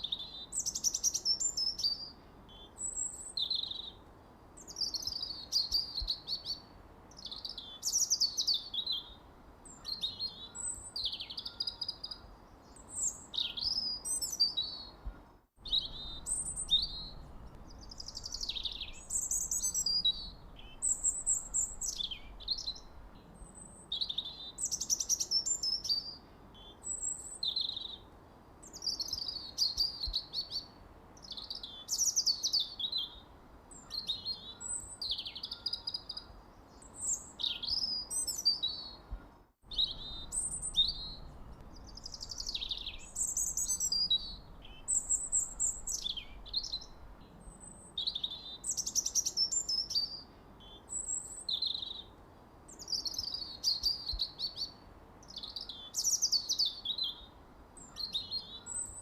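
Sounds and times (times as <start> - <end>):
faint background hiss: 0.0 - 59.0
songbirds chirping and singing: 4.6 - 59.0.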